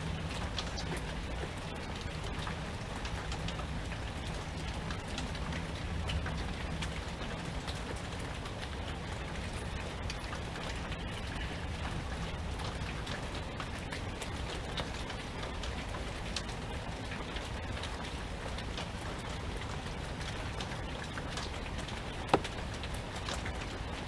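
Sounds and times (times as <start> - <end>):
raindrops ticking on surfaces: 0.0 - 24.0
steady rainfall: 0.0 - 24.0.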